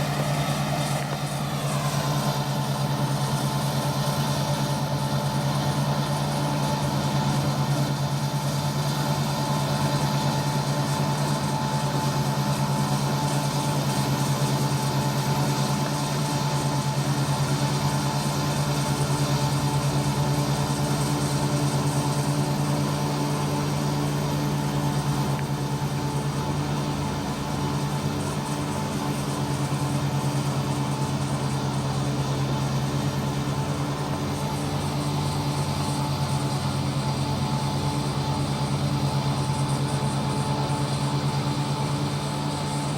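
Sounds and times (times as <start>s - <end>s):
harvester engine humming: 0.0s - 42.9s.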